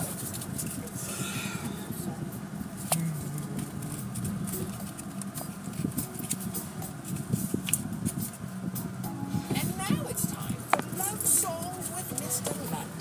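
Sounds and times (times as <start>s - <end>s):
engine and tyre hum: 0.0s - 13.0s.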